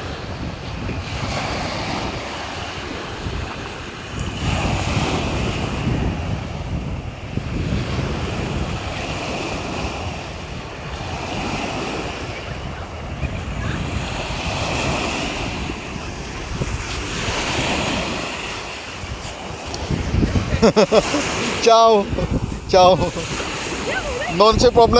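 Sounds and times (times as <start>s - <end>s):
waves breaking on a sandy shore: 0.0s - 24.9s
wind buffeting the microphone: 0.0s - 24.9s.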